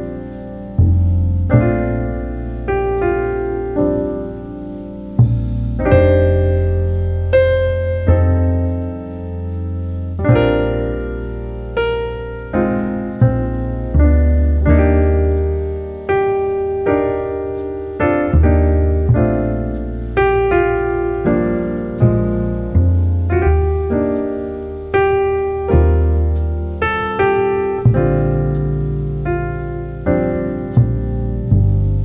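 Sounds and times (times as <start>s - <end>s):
slow piano melody: 0.0s - 32.0s.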